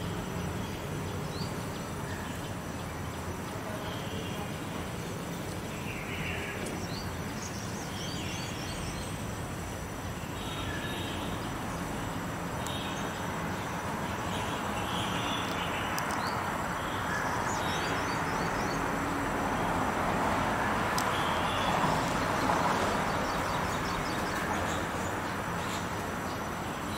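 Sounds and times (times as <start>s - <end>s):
outdoor background noise: 0.0s - 26.9s.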